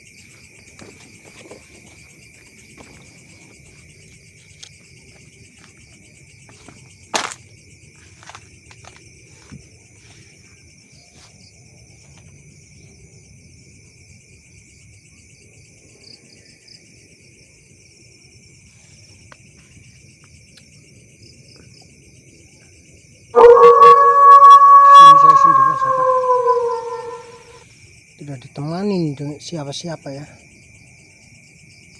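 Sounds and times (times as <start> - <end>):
night insects chirping: 0.0 - 21.8, 22.8 - 31.9.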